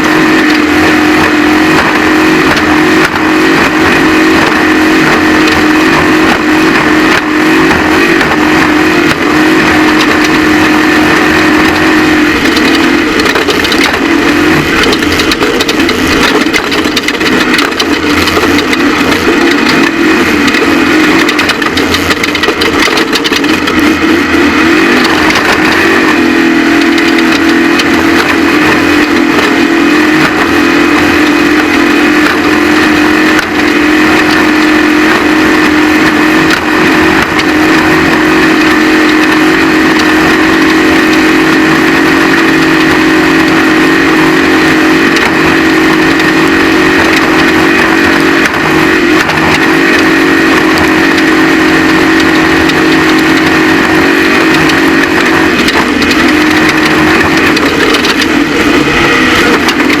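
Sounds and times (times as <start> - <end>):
race vehicle engine at high revs: 0.0 - 60.0.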